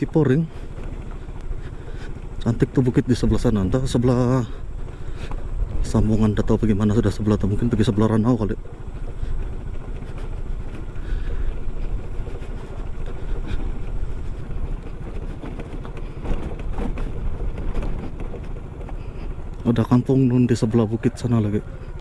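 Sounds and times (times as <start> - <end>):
scooter engine running: 0.0 - 22.0.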